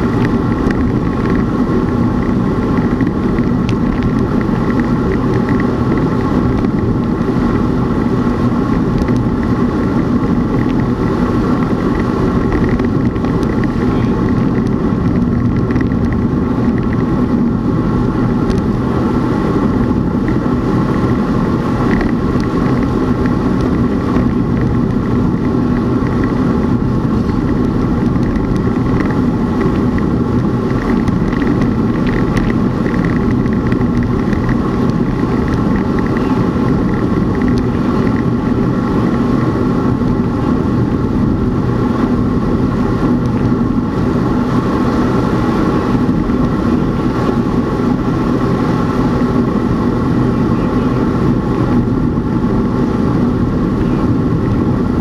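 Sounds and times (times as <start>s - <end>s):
bicycle road noise: 0.0s - 55.0s
constant hum: 0.0s - 55.0s
wind rushing: 0.0s - 55.0s.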